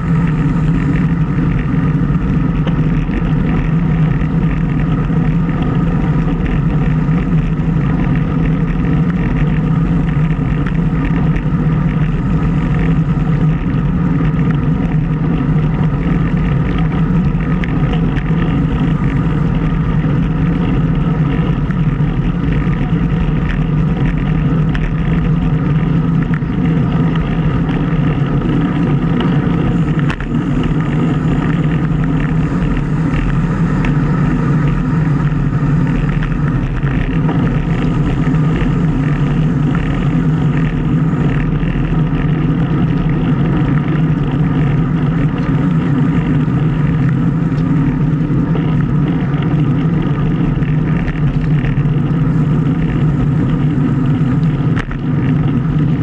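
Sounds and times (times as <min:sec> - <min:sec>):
road noise: 0:00.0 - 0:56.0
wind rush on microphone: 0:00.0 - 0:56.0.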